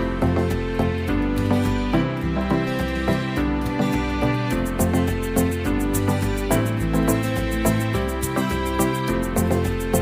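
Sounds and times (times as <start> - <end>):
bass line and melody: 0.0 - 10.0.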